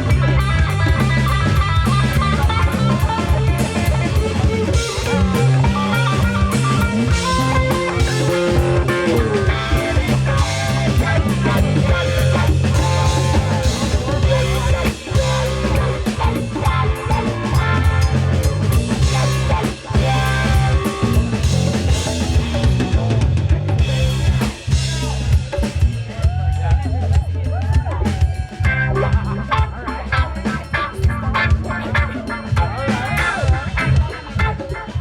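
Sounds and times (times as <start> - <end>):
electric guitar lines: 0.0 - 25.4, 28.3 - 35.0
bass line: 0.0 - 35.0
drum kit: 0.0 - 35.0.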